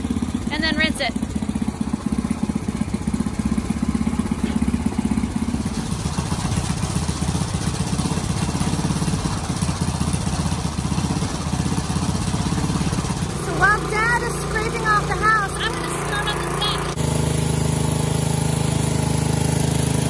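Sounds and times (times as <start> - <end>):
pressure washer engine running: 0.0 - 20.0.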